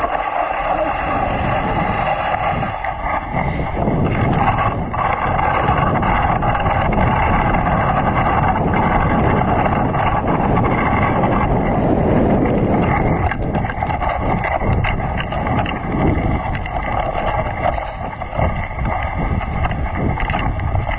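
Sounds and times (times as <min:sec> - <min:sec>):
sled knocks and rattles: 0:00.0 - 0:20.9
sled runners sliding on snow: 0:00.0 - 0:20.9
wind on microphone: 0:00.0 - 0:20.9.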